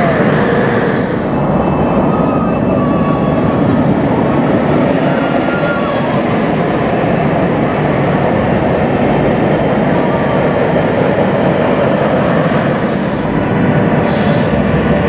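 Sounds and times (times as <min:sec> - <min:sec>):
roller coaster wheels rumbling on rails: 0:00.0 - 0:15.0.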